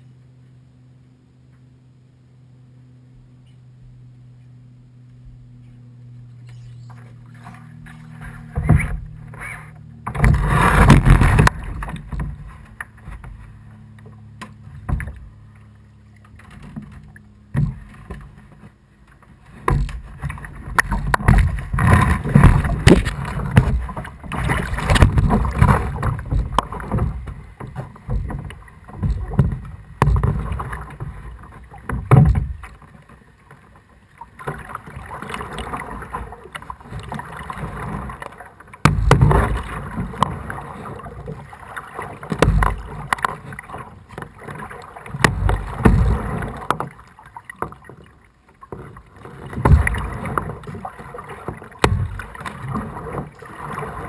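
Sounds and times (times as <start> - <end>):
paddle splashing: 5.3 - 54.0.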